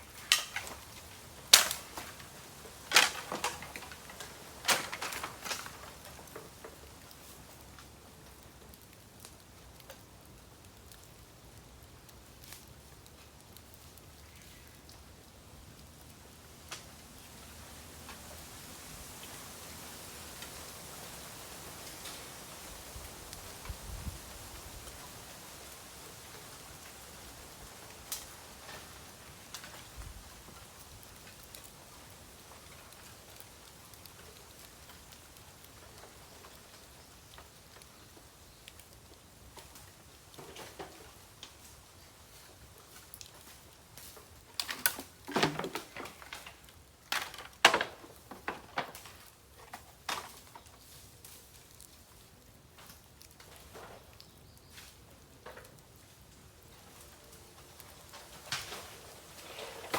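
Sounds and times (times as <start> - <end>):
fire hissing and crackling: 0.0 - 59.9.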